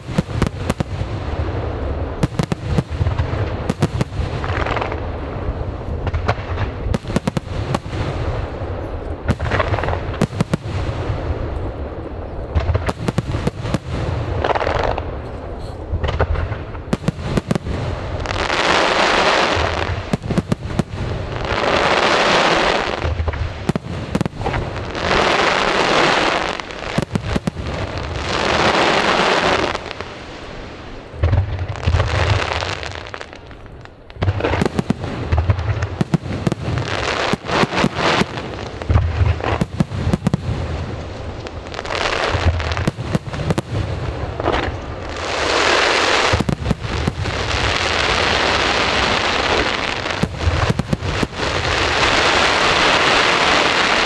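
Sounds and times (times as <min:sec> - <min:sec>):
crackling glitter fireworks: 0:00.0 - 0:54.0
firework shells bursting: 0:00.0 - 0:54.0.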